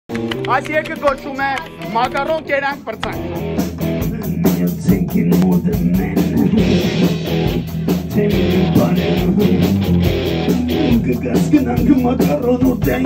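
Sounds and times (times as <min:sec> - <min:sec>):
drum kit beat: 0:00.1 - 0:13.0
live rock band playing: 0:00.1 - 0:13.0.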